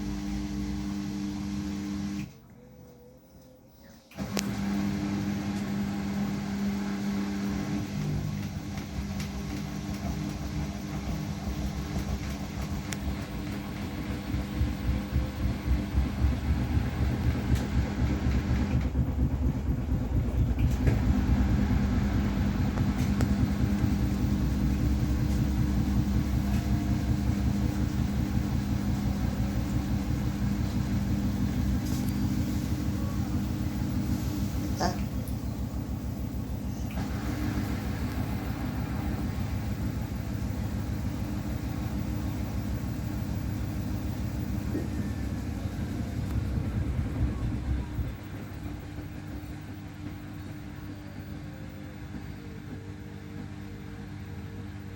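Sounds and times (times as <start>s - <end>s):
washing machine motor hum: 0.0s - 54.9s
rhythmic low pulsing: 8.9s - 36.9s, 37.6s - 54.8s.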